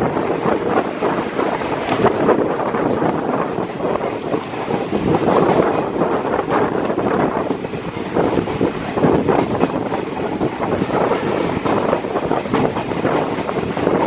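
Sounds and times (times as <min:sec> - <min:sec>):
train wheels running on rail: 0:00.0 - 0:14.0
wind buffeting microphone: 0:00.0 - 0:14.0.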